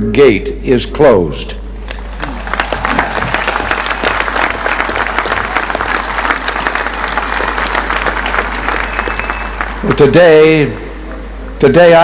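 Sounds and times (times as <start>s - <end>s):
steady low hum: 0.0s - 12.0s
crowd applauding: 1.9s - 11.6s.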